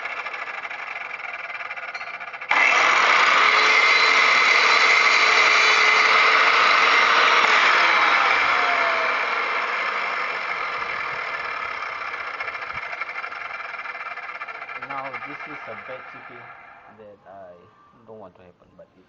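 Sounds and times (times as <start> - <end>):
miter saw cutting stone: 0.0 - 17.0.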